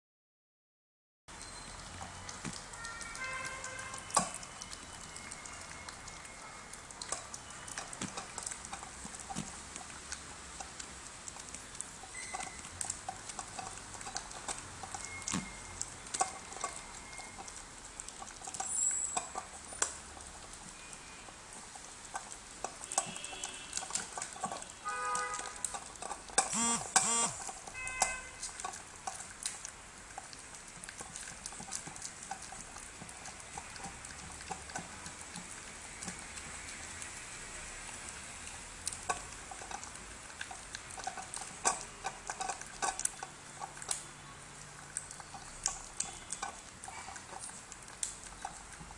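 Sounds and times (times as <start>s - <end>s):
teeth clicking on metal bowl: 1.4s - 48.9s
dog smacking and slurping food: 1.5s - 48.9s.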